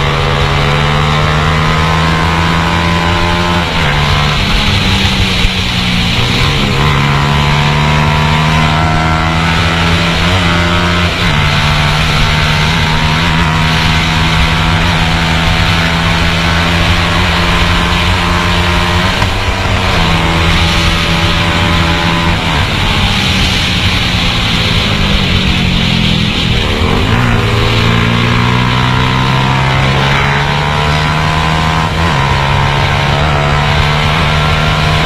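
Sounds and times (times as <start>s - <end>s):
motorcycle engine at high revs: 0.0s - 35.0s
wind rushing: 1.8s - 35.0s.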